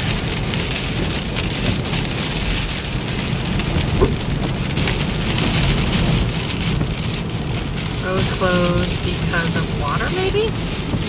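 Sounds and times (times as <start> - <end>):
car rumble on wet road: 0.0 - 11.0
heavy rain hitting a car: 0.0 - 11.0.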